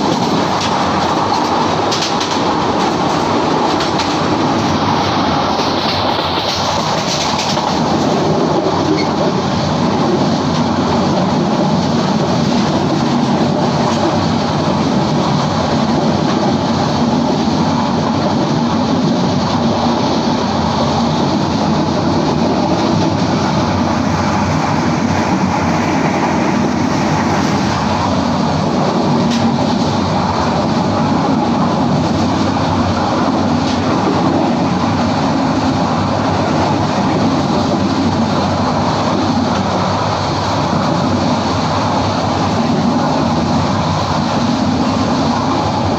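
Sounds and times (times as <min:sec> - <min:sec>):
train wheels on track: 0:00.0 - 0:45.9.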